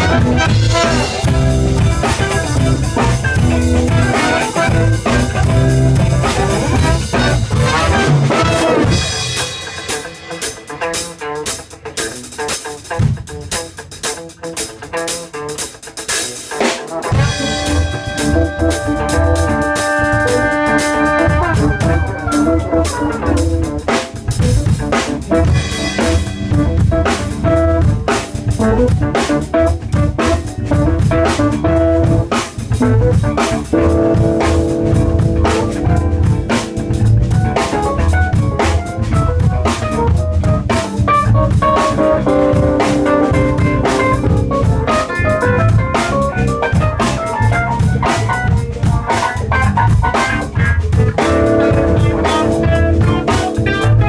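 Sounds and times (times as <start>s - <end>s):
band playing instrumental: 0.0s - 54.0s
drum kit beat: 0.0s - 54.0s.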